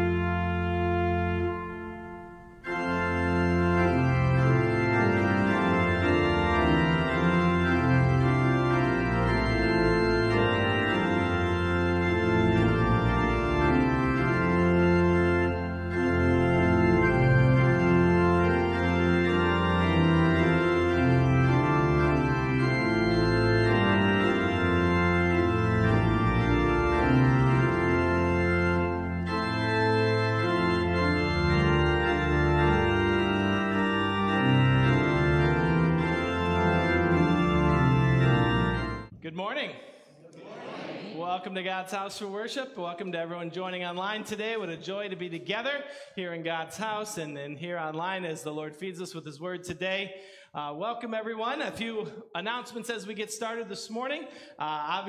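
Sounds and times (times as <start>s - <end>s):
organ playing sustained chords: 0.0s - 40.0s, 41.1s - 55.0s.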